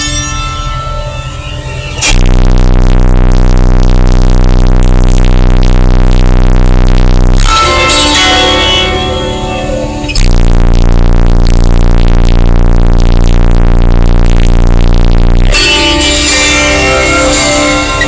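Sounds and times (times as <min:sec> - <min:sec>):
loud bass-heavy music: 0:00.0 - 0:18.0.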